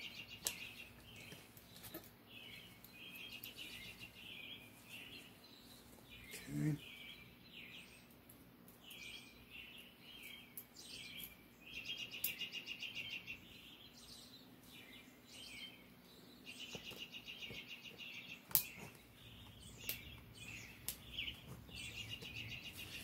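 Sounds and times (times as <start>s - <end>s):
bird chirping trills: 0.0s - 23.0s.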